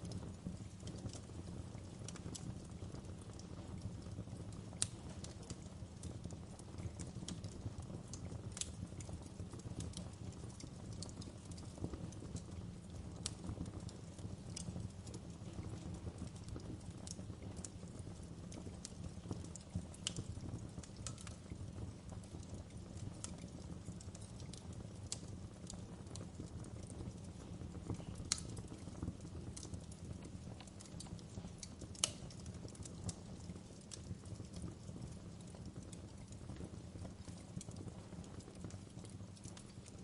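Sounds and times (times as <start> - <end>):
burning wood crackling: 0.0 - 40.0
campfire flames rumbling: 0.0 - 40.0.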